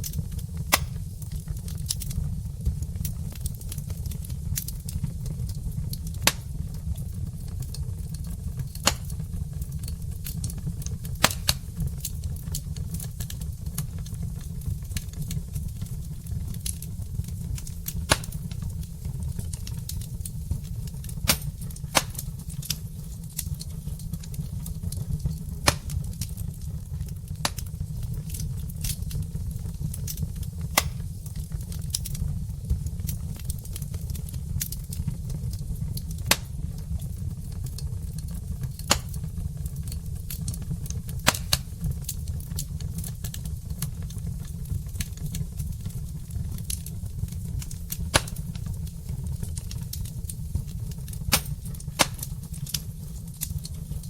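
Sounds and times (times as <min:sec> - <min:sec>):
low fire rumble: 0:00.0 - 0:54.0
wood fire crackling and popping: 0:00.0 - 0:54.0.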